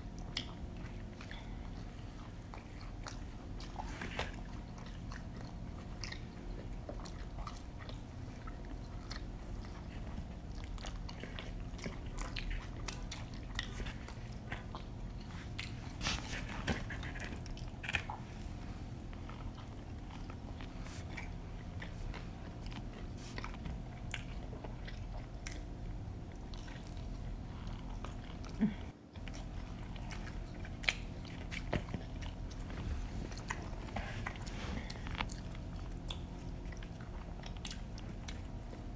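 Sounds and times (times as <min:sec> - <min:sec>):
chewing pizza: 0:00.0 - 0:38.9.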